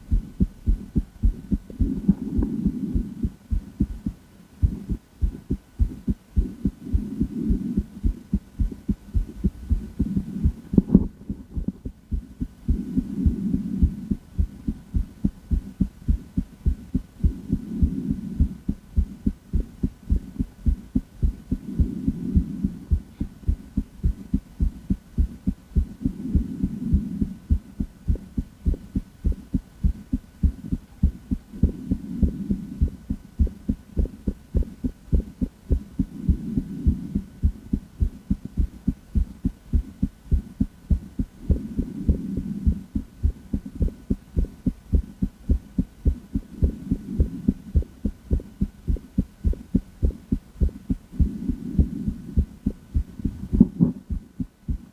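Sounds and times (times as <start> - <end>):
heart beating through stethoscope: 0.0 - 54.9.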